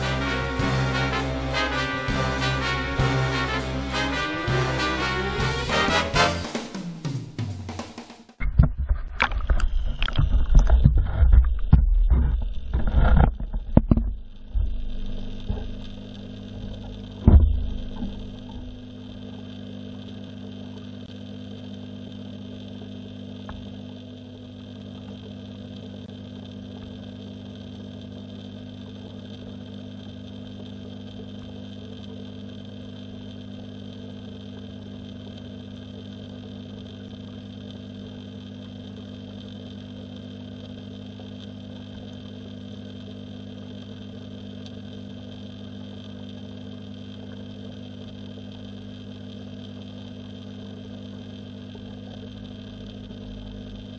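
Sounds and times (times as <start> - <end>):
underwater electrical hum: 0.0 - 7.2, 8.4 - 53.9.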